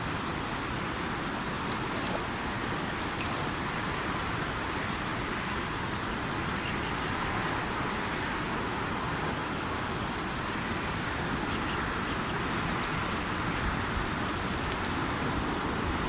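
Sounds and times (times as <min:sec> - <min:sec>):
campfire hissing and crackling: 0:00.0 - 0:16.0.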